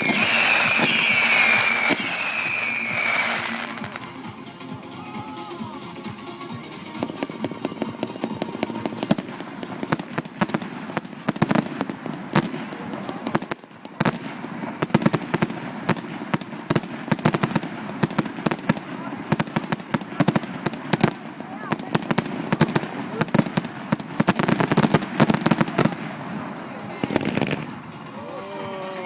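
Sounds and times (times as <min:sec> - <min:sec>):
fireworks crackling bangs: 0:00.0 - 0:04.4, 0:06.6 - 0:28.1.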